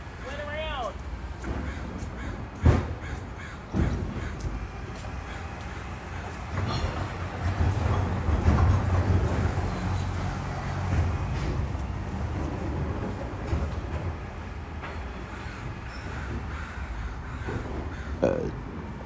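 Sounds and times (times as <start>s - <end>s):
garbage truck engine rumbling: 1.0s - 19.0s.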